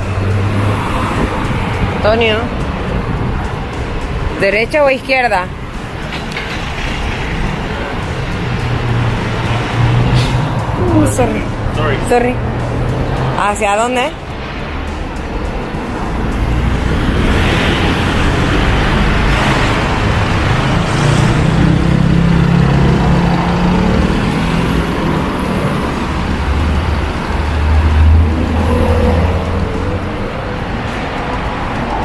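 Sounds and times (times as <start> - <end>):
vehicles passing by: 0.0 - 32.0.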